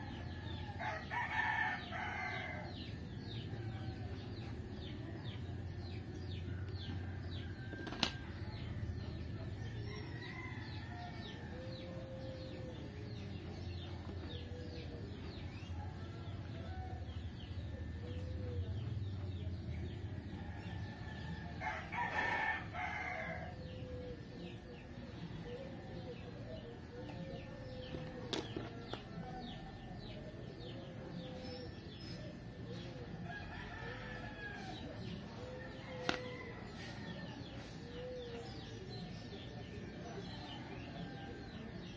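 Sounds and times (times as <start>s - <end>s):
birds chirping and clucking: 0.0s - 41.9s.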